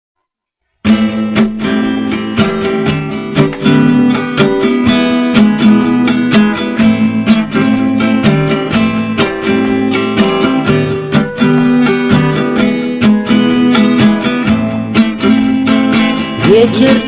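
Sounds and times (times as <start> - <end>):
strummed acoustic guitar: 0.8 - 17.0.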